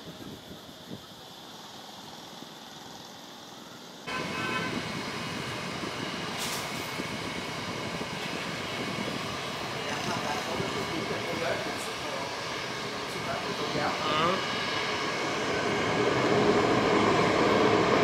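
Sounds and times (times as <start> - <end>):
vehicle noise with held tones: 0.0 - 18.0.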